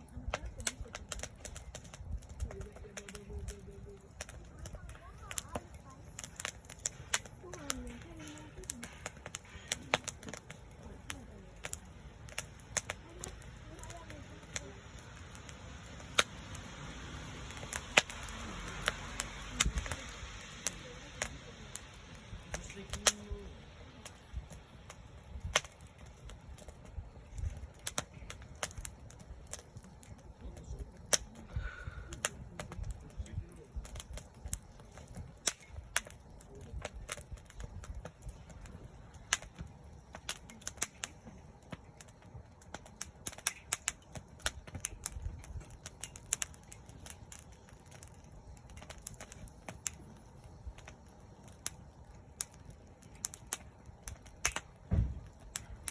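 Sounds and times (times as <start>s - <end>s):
campfire crackling and popping: 0.0s - 55.9s
faint voices: 0.0s - 55.9s.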